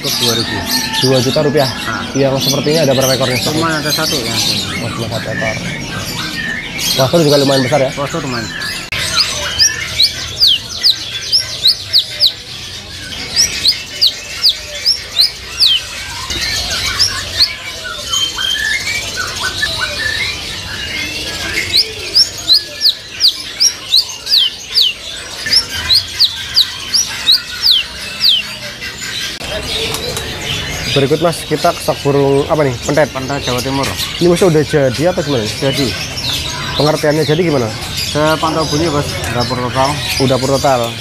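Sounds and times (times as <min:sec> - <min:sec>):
birds chirping quietly: 0:00.0 - 0:41.0.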